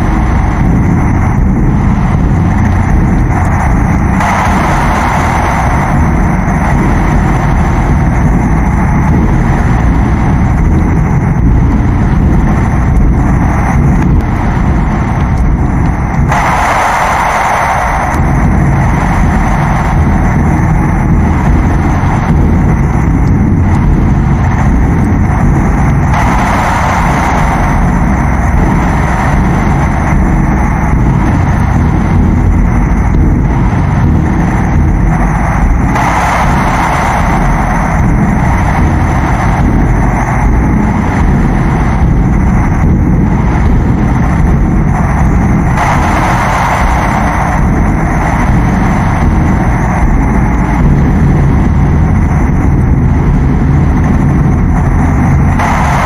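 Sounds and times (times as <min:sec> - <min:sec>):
distorted low rumble: 0:00.0 - 0:56.0.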